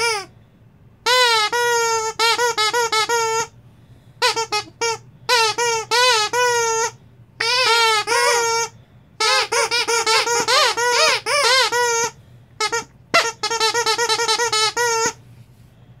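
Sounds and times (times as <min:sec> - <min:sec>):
dog toy squeaking: 0:00.0 - 0:00.3, 0:01.0 - 0:03.6, 0:04.2 - 0:15.2.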